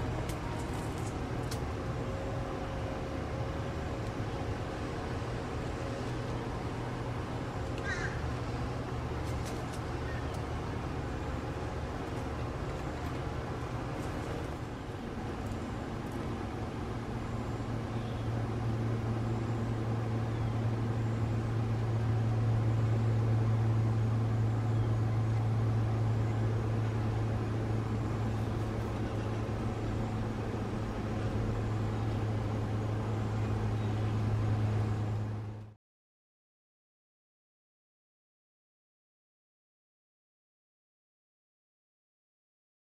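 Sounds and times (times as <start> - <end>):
low machine hum: 0.0 - 35.8.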